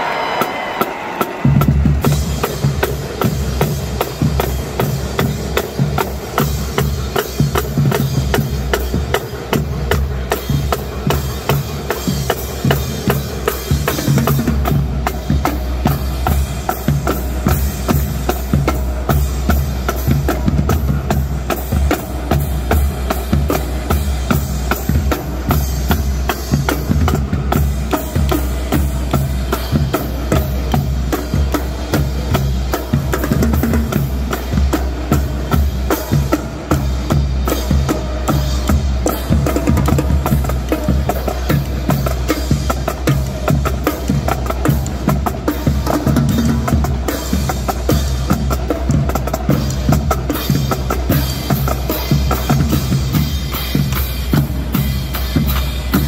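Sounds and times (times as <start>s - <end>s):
cymbals: 0.0s - 56.0s
snare drums: 0.0s - 56.0s
tenor drums: 0.0s - 56.0s
bass drums: 1.4s - 56.0s.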